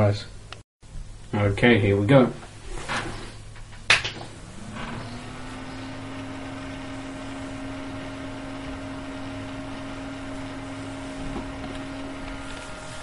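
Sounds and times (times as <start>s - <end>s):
low mains hum: 0.0s - 13.0s
small cooling fan whirring: 0.0s - 13.0s.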